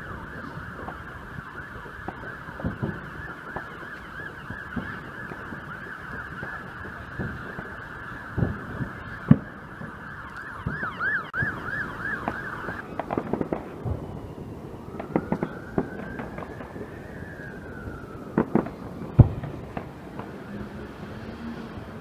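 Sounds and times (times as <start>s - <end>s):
fireworks banging: 0.0s - 22.0s.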